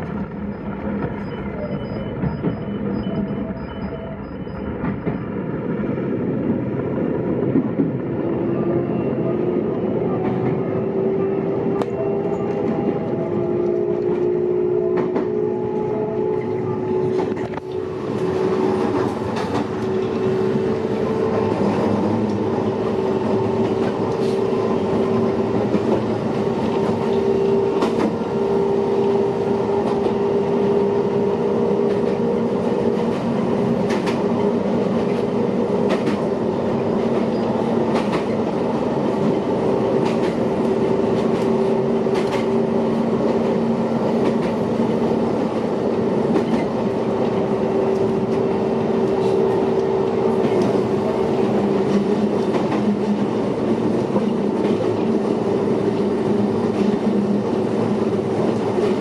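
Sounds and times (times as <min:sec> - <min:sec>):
electric train running hum: 0:00.0 - 0:59.0.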